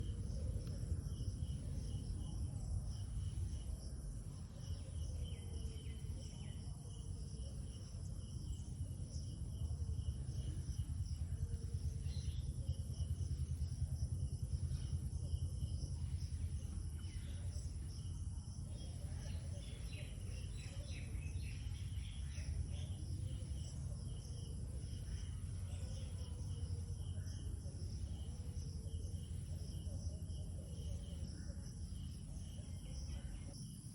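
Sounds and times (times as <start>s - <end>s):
crickets trilling: 0.0s - 33.9s
low background rumble: 0.0s - 33.9s.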